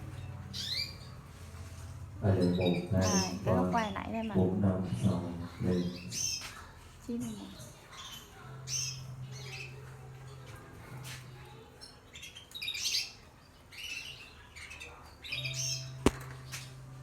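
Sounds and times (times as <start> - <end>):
canaries chirping and calling: 0.0 - 6.8, 7.5 - 10.4, 11.7 - 16.0.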